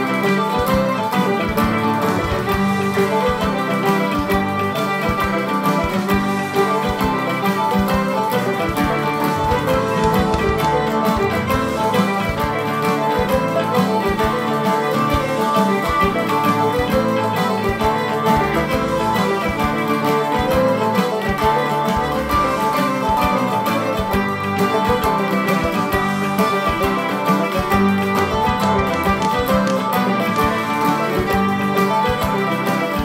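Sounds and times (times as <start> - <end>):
fiddle playing a jig: 0.0 - 33.0.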